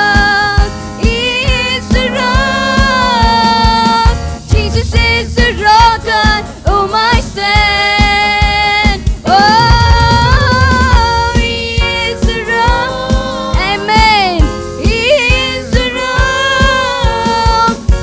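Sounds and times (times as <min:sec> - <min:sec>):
band with steady drum beat: 0:00.0 - 0:18.0
singers holding wordless notes: 0:00.0 - 0:18.0.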